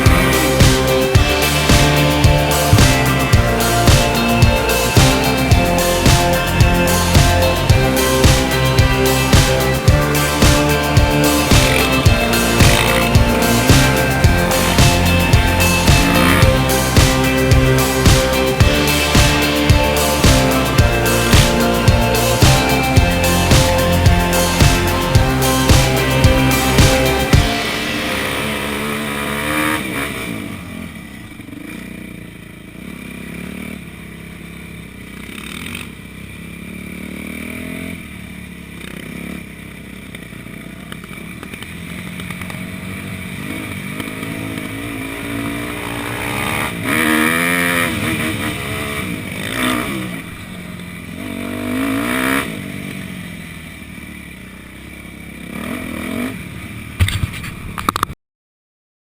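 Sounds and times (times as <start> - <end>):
motocross bike engines revving: 0.0 - 57.4.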